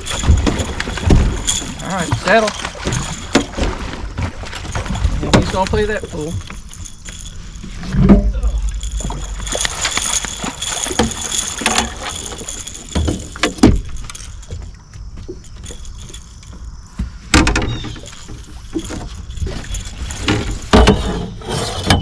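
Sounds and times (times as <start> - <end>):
gear knocking and rattling on boat: 0.0 - 22.0.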